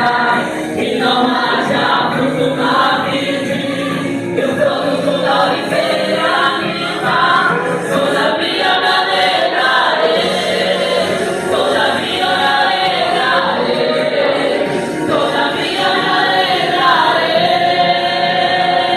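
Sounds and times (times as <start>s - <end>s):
choir singing a gospel hymn: 0.0s - 18.9s.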